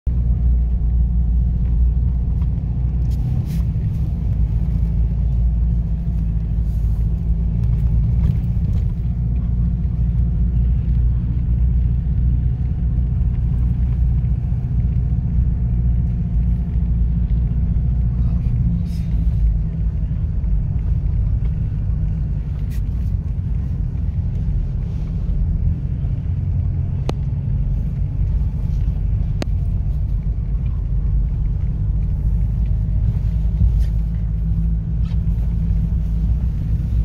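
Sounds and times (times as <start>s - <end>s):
car engine rumble: 0.0s - 37.0s.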